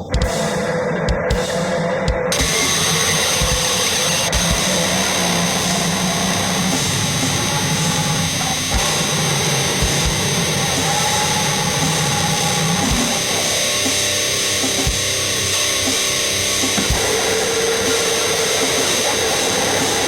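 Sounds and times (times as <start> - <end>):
distorted static noise: 0.0 - 20.0.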